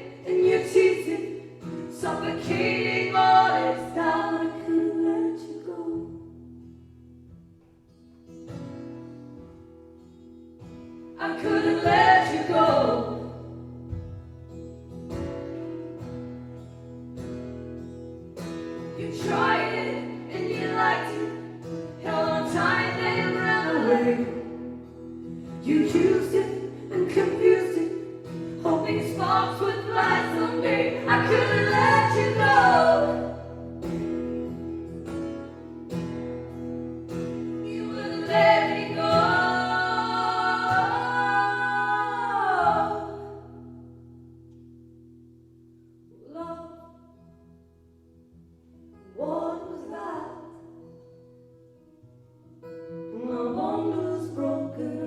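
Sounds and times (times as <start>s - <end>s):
acoustic guitar chords: 0.0s - 55.0s.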